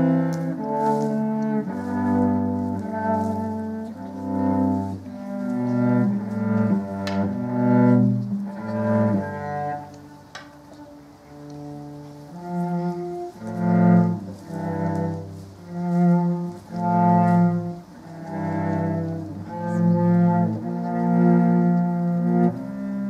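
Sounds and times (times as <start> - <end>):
cello long bowed notes: 0.0 - 23.0.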